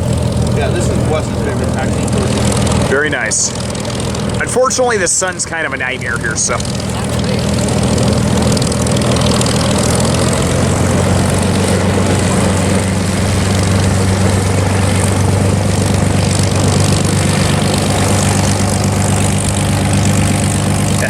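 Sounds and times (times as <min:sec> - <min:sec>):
propeller plane engine running: 0:00.0 - 0:21.0.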